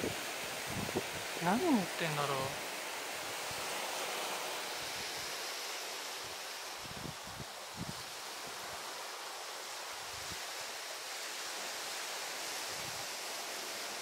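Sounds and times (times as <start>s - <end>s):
sea waves washing on beach: 0.0s - 14.0s.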